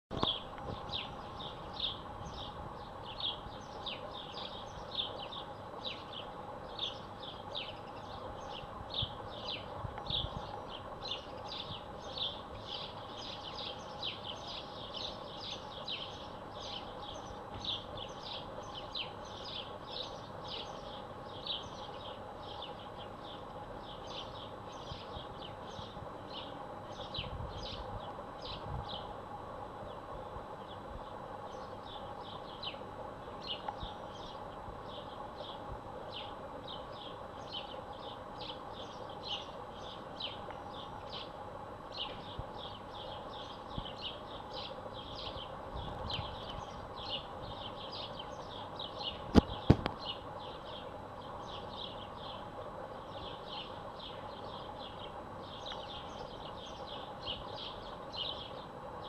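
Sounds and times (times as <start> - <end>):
small birds chirping: 0.1 - 29.2, 29.8 - 59.0
low background hum: 0.1 - 59.0.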